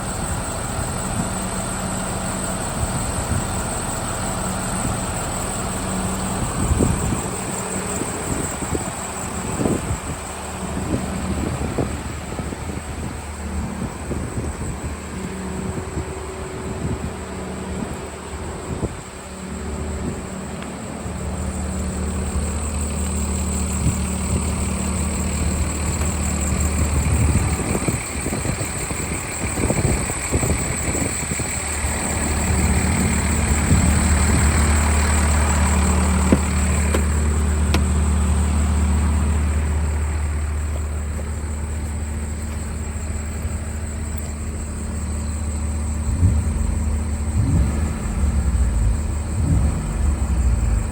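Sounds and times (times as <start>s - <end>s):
pickup engine idling: 0.0s - 50.9s.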